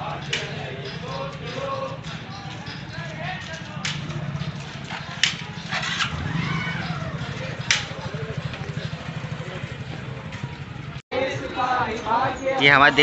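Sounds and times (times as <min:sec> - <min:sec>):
motorcycle engines passing slowly: 0:00.0 - 0:13.0.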